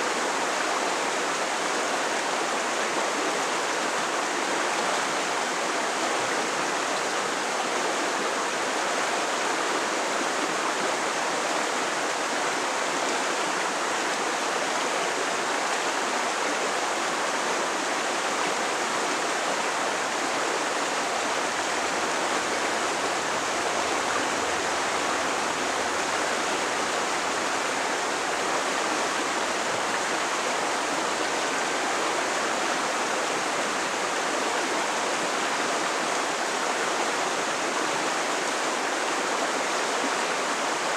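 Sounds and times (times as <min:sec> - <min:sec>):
creek water rushing over rocks: 0:00.0 - 0:40.9.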